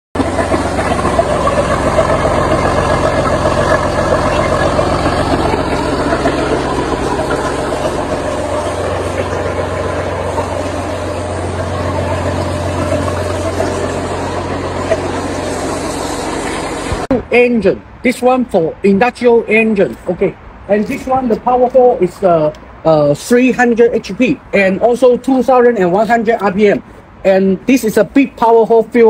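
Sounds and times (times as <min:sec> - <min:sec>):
diesel engine running: 0:00.2 - 0:29.0.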